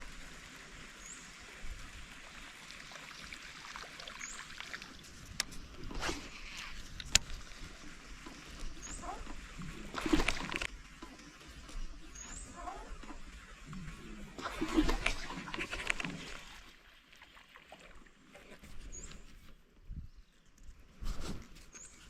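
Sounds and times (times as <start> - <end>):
small water splash: 0.0 - 19.3.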